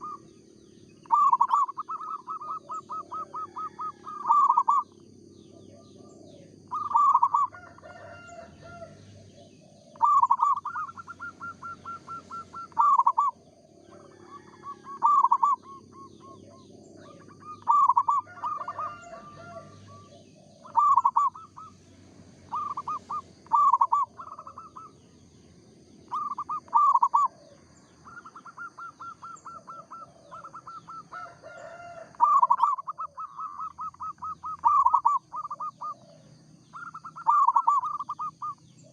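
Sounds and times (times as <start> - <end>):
doves cooing: 0.0 - 38.9.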